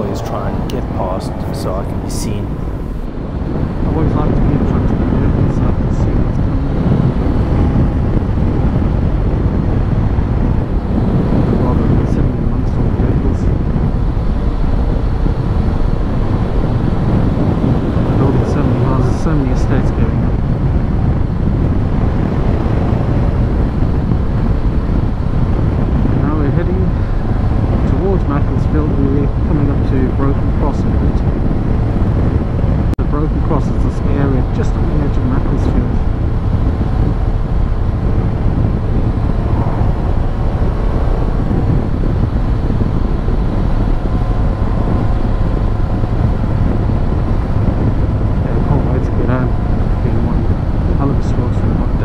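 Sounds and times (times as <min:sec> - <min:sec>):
motorcycle running: 0:00.0 - 0:52.0
road noise: 0:00.0 - 0:52.0
wind noise on microphone: 0:00.0 - 0:52.0.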